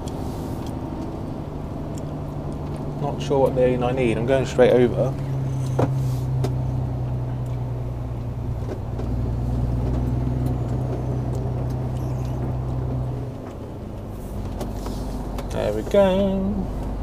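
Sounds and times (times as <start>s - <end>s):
lorry diesel engine drone: 0.0s - 17.0s.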